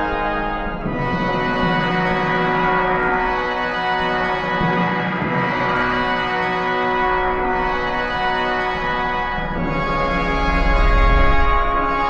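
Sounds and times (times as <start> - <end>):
background music of held chords: 0.0 - 12.0.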